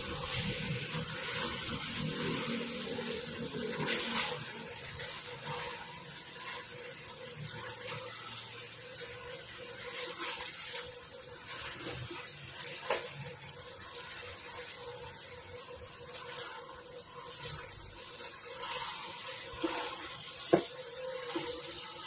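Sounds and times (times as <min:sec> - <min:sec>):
stirring sauce in a pot: 0:00.0 - 0:22.0.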